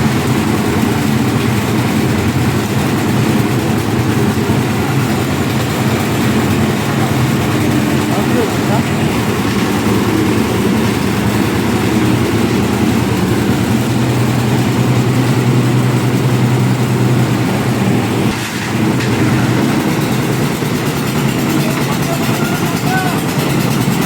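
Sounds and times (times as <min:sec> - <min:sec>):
mixer engine humming: 0:00.0 - 0:24.0.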